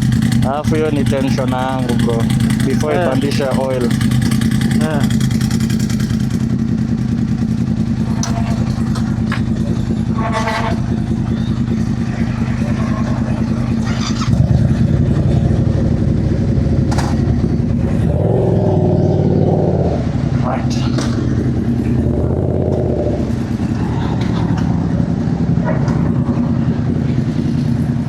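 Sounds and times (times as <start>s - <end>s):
motorcycle engines idling: 0.0s - 28.0s.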